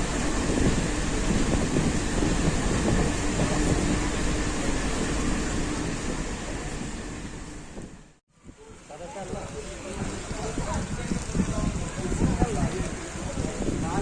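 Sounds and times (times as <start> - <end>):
train running along track: 0.0 - 14.0.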